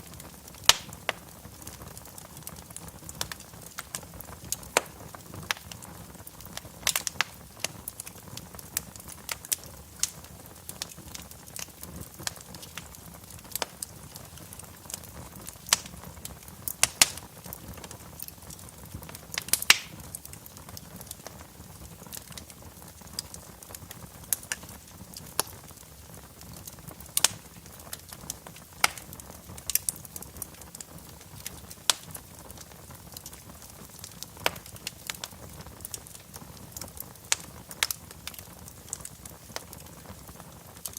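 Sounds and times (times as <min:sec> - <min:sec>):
low steady hiss: 0:00.0 - 0:40.9
wood fire crackling: 0:00.0 - 0:40.9.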